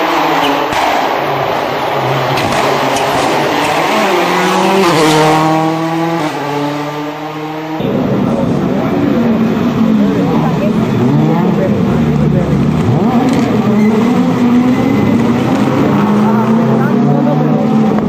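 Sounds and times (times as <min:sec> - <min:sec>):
loud rushing noise: 0:00.0 - 0:18.0
rally car engine at full throttle: 0:00.0 - 0:18.0.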